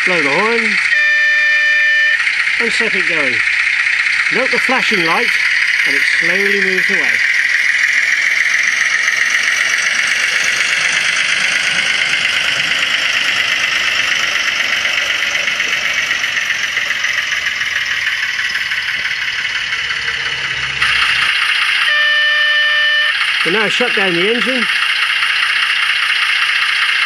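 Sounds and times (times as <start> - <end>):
steady tone: 0.0 - 26.2
model locomotive diesel engine sound: 0.0 - 27.0.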